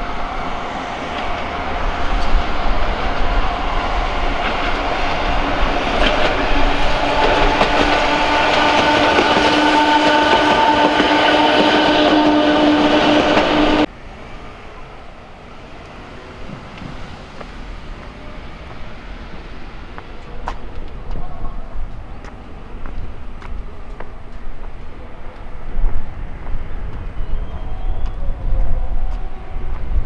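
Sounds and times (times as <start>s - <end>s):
train wheels on rails: 0.0s - 30.0s.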